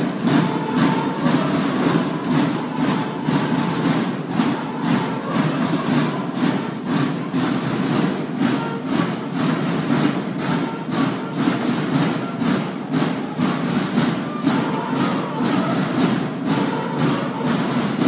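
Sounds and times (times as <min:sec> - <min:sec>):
bugle notes: 0:00.0 - 0:18.0
snare drums beating: 0:00.0 - 0:18.0.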